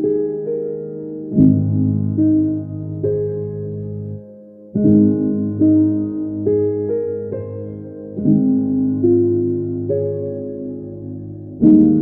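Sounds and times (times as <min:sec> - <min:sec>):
calm keyboard music: 0:00.0 - 0:12.0.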